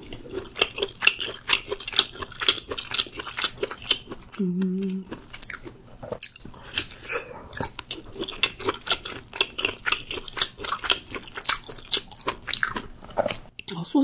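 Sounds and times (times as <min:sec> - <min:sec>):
wet chewing and smacking: 0:00.0 - 0:13.8.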